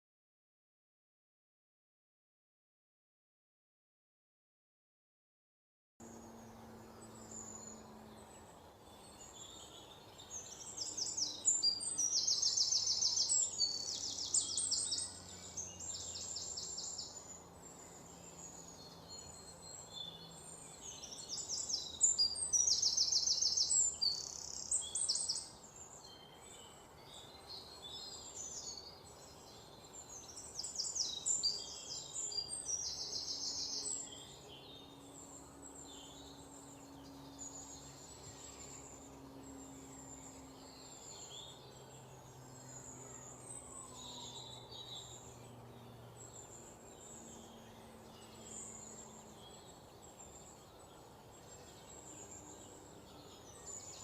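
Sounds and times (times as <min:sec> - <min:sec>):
faint steady hum: 0:06.0 - 0:54.0.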